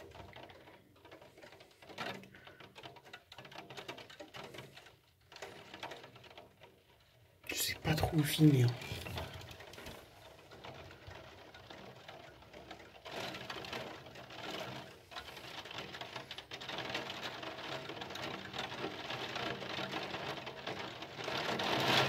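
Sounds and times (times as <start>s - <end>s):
rain pattering on a window: 0.0s - 22.0s.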